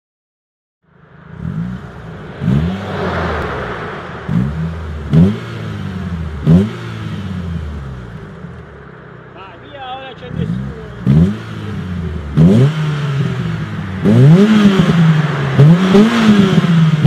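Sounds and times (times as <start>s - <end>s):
car engine idling and revving: 0.9s - 17.0s.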